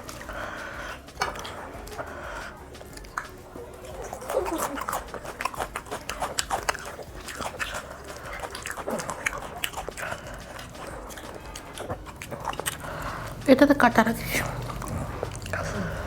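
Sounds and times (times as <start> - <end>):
crisp fried fish being chewed: 0.0 - 16.0.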